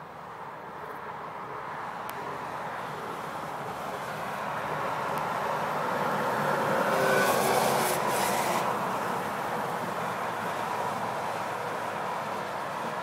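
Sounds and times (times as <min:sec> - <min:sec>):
tyre and road noise: 0:00.0 - 0:13.0.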